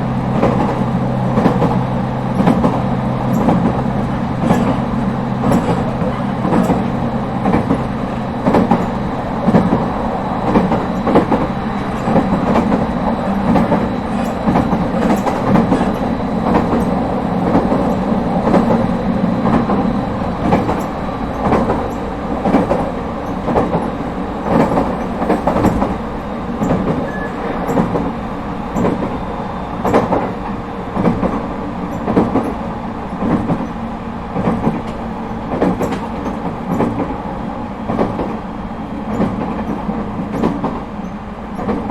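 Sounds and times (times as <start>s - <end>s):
electric train rumble: 0.0s - 41.9s
wheels clacking over rail joints: 0.3s - 29.2s, 29.8s - 37.2s.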